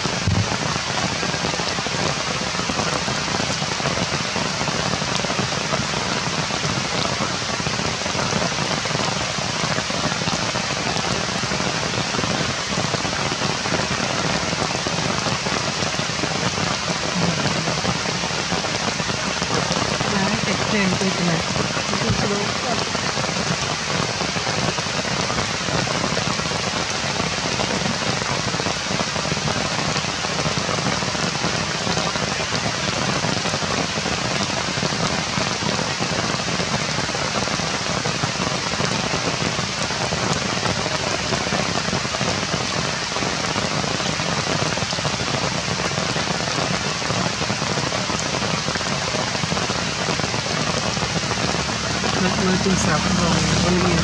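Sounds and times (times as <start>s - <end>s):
rain on foliage: 0.0s - 54.0s.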